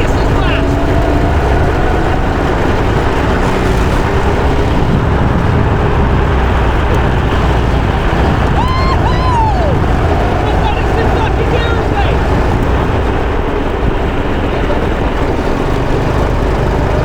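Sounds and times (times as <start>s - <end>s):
go-kart engine running: 0.0s - 17.0s
wind buffeting microphone: 0.0s - 17.0s.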